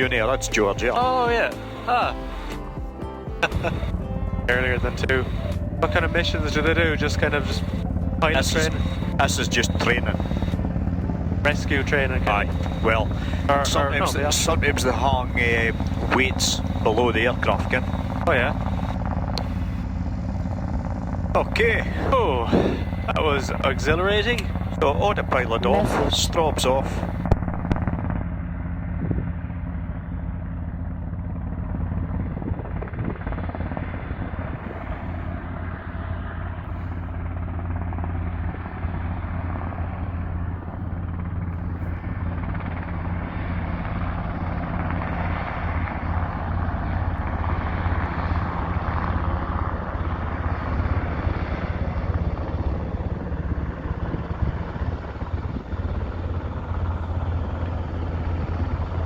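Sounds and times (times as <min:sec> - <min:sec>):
aircraft drone: 0:00.0 - 0:59.0.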